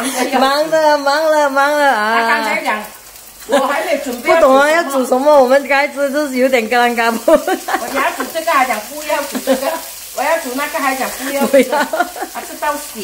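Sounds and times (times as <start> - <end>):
chili paste sizzling in a wok: 0.0 - 13.0
woman talking: 0.0 - 13.0.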